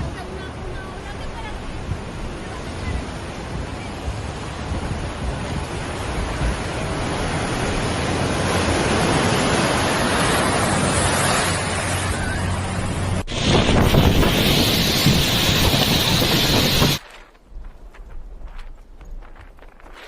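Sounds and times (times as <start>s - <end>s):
storm wind roaring: 0.0s - 19.9s.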